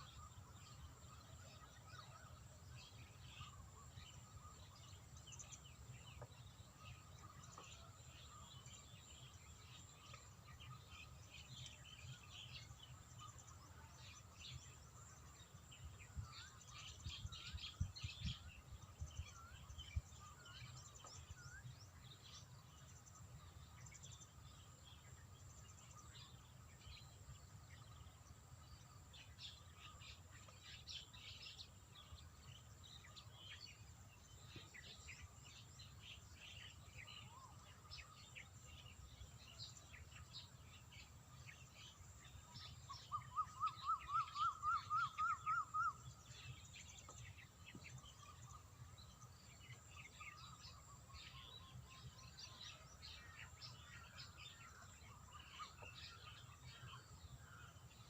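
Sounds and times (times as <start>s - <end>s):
birds and insects chirping: 0.0s - 58.0s.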